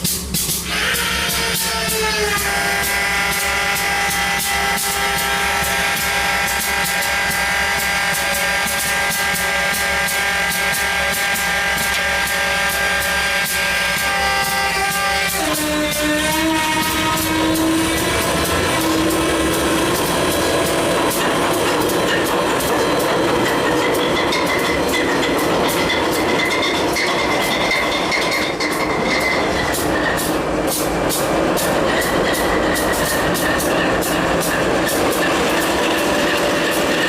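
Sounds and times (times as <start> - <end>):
model locomotive diesel engine sound: 0.0 - 37.0.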